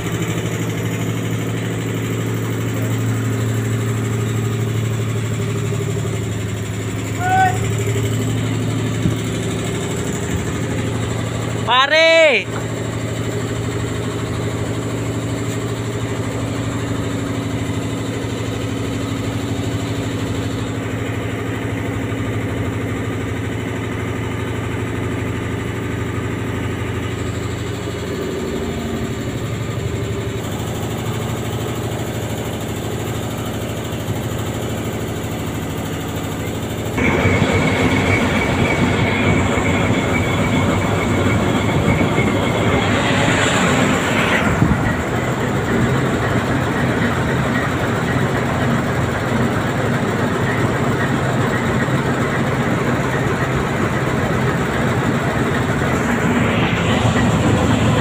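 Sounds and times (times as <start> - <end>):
ship diesel engine droning: 0.0 - 58.0.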